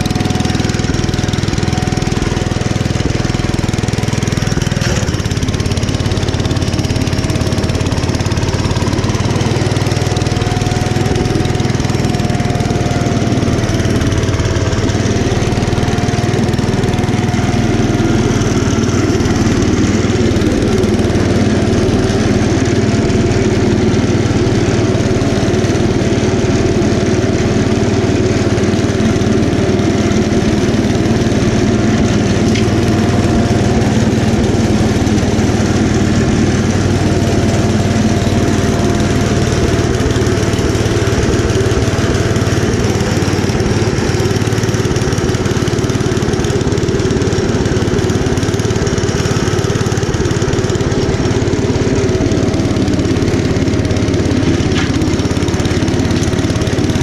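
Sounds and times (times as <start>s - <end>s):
engine running under load: 0.0s - 57.0s
snowblower throwing snow: 0.0s - 57.0s.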